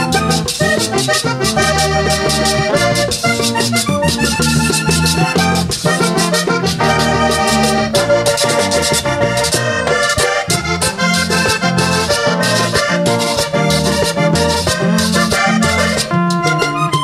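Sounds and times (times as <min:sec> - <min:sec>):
button accordion: 0:00.0 - 0:17.0
electric bass: 0:00.0 - 0:17.0
hand drum: 0:00.0 - 0:17.0.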